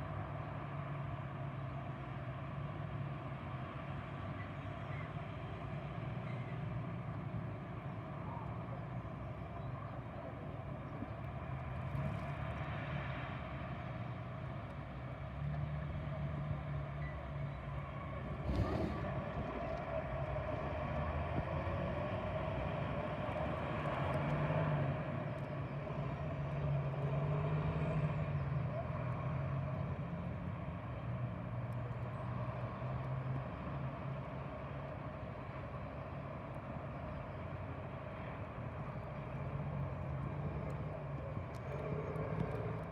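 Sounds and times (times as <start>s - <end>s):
street traffic rumble: 0.0s - 42.9s.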